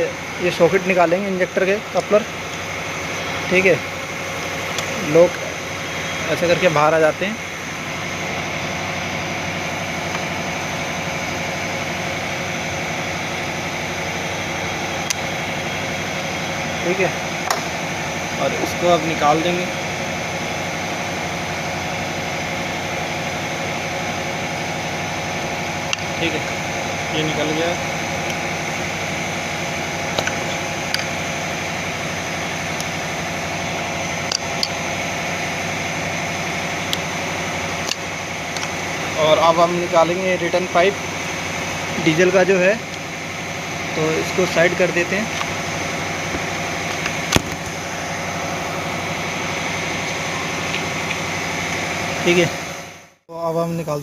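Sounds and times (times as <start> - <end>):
high whine: 0.0 - 54.0
machine drone: 0.0 - 54.0.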